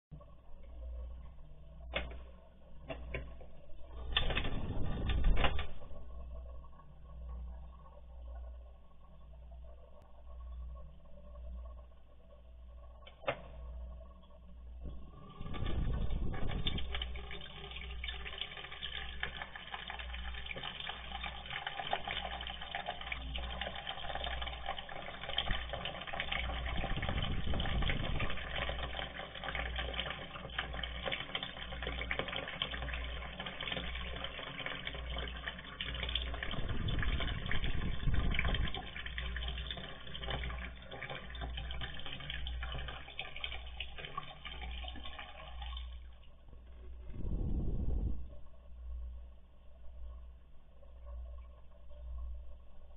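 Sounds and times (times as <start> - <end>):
water pouring from a tap: 0.1 - 52.9.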